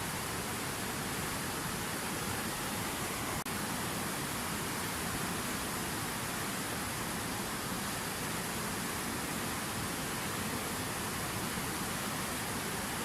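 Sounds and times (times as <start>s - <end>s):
fountain water falling: 0.0s - 13.0s.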